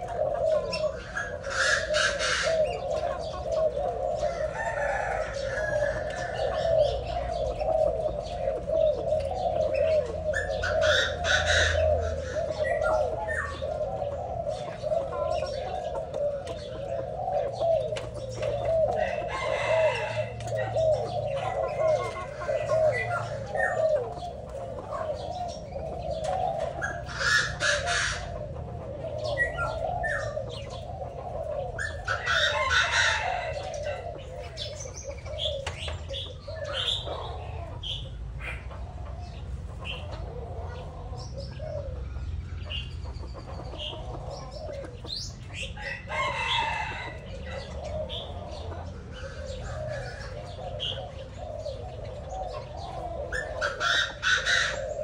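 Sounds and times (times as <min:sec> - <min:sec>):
birds chattering: 0:00.0 - 0:55.0
birds chirping: 0:00.0 - 0:55.0
harsh bird calls: 0:00.0 - 0:55.0.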